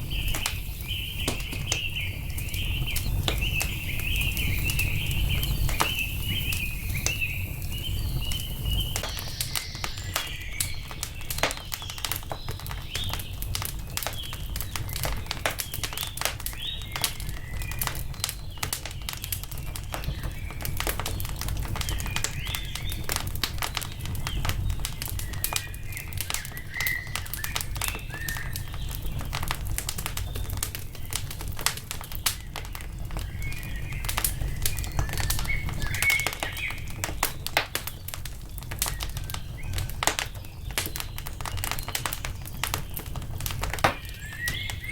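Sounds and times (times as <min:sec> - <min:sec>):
small birds chirping: 0:00.0 - 0:44.9
wood fire crackling: 0:00.0 - 0:44.9.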